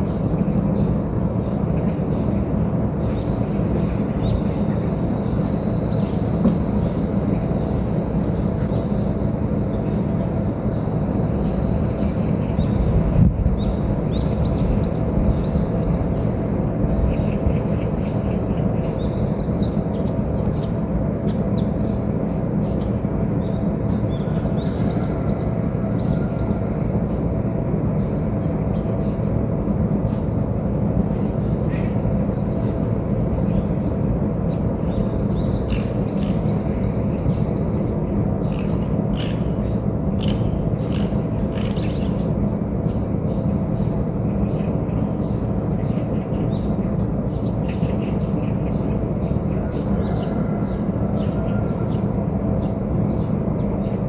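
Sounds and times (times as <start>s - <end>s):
birds chirping: 0.0s - 54.0s
steady low rumble: 0.0s - 54.0s.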